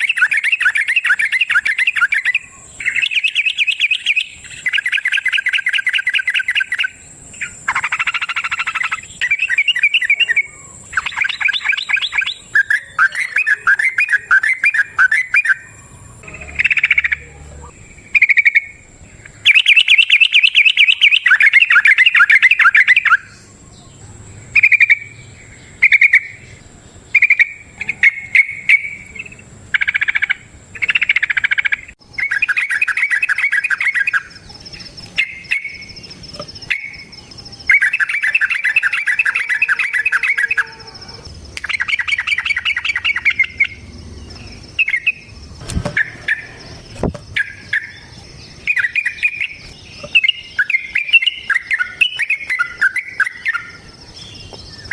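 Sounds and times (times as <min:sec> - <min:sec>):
bird singing fast trills: 0:00.0 - 0:54.9.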